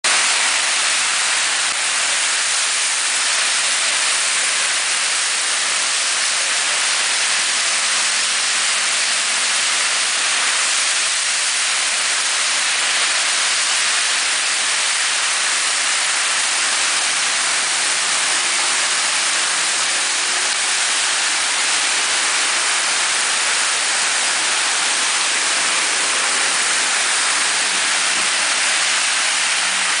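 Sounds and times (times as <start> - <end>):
heavy rain on flooded street: 0.0 - 30.0.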